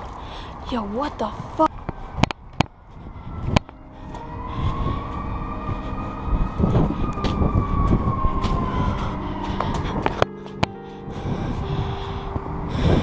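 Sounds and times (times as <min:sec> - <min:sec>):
low rumble: 0:01.4 - 0:13.0
siren wailing: 0:01.6 - 0:13.0.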